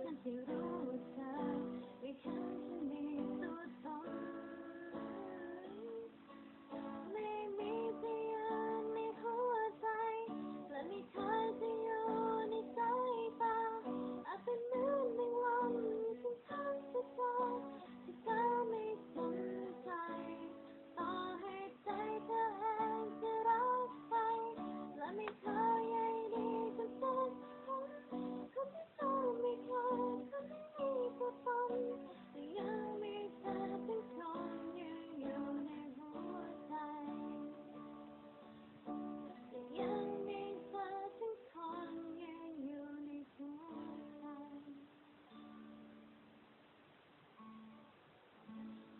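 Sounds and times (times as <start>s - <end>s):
woman singing slow song: 0.0s - 37.8s, 39.4s - 45.0s
strummed guitar: 0.0s - 48.9s.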